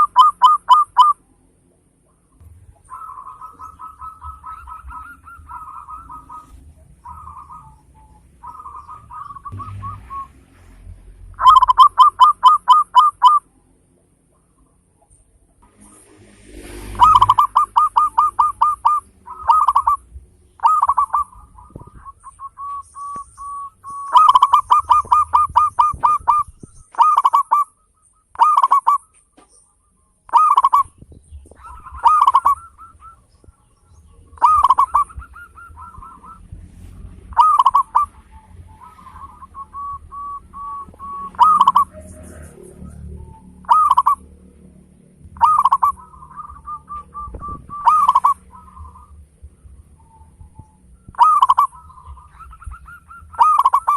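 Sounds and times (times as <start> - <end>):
dove cooing: 0.0 - 1.3, 2.1 - 10.4, 11.0 - 13.5, 16.8 - 44.6, 45.3 - 53.9.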